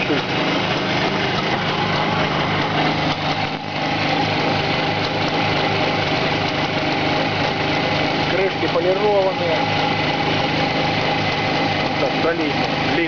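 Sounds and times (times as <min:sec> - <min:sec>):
two-stroke engine idling: 0:00.0 - 0:13.0.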